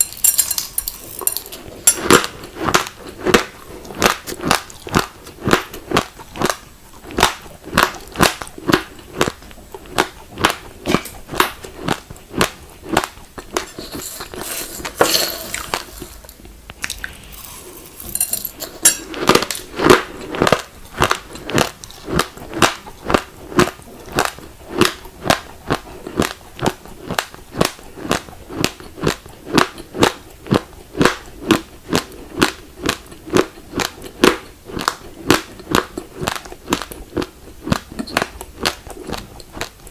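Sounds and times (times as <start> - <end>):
teeth crunching rice grains: 0.0 - 15.0, 16.1 - 39.9.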